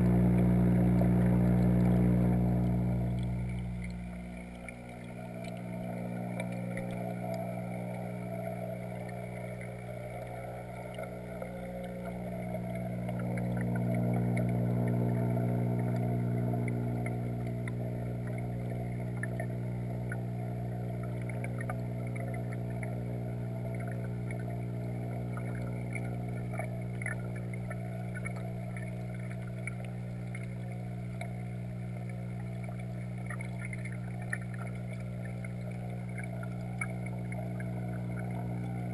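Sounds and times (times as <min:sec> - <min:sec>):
air bubbles bubbling: 0:00.0 - 0:38.9
muffled pump motor hum: 0:00.0 - 0:38.9.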